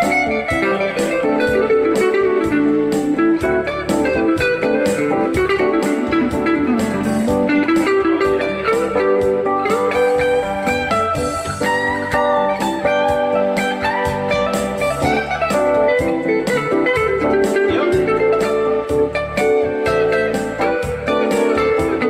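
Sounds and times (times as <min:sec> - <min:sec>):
plucked guitar melody: 0:00.0 - 0:22.0
steady beat: 0:00.0 - 0:22.0.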